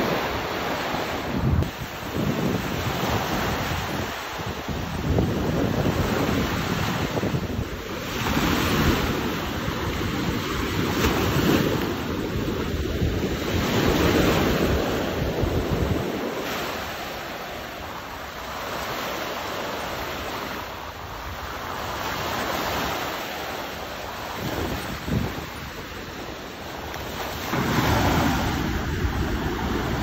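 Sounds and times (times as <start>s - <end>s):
small waves washing on sand: 0.0s - 30.0s
wind rumbling on microphone: 0.0s - 30.0s.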